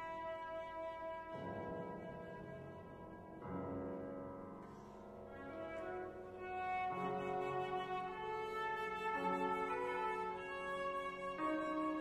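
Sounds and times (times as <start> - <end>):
flute and piano playing: 0.0 - 12.0.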